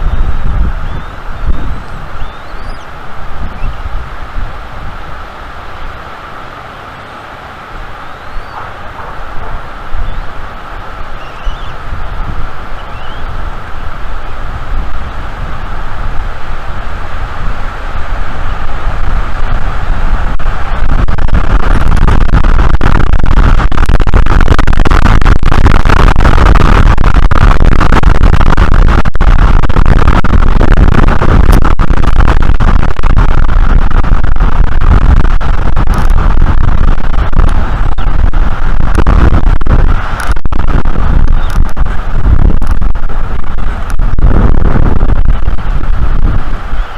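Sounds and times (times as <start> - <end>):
strong wind buffeting microphone: 0.0 - 46.9.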